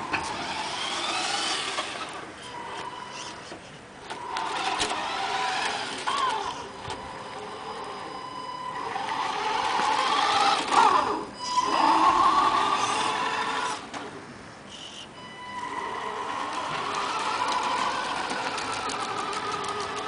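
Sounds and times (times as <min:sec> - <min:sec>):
electric motor and gearbox whining: 0:00.0 - 0:14.2, 0:15.2 - 0:20.0.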